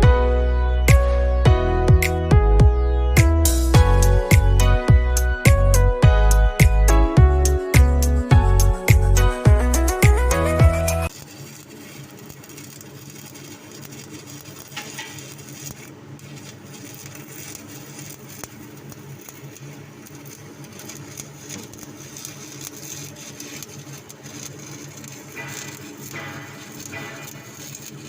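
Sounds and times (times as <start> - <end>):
welding arc crackling and sizzling: 3.2 - 28.0.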